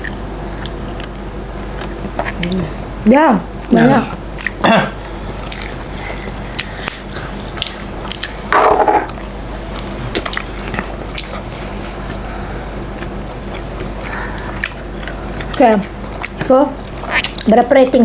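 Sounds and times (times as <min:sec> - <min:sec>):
wet chewing and mouth sounds: 0:00.0 - 0:02.8, 0:03.6 - 0:18.0.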